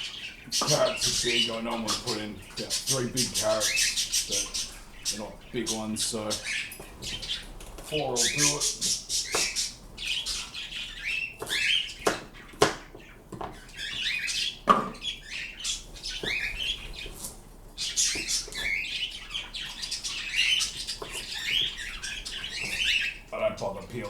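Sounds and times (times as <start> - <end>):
pet birds chirping and squawking: 0.0 - 24.0.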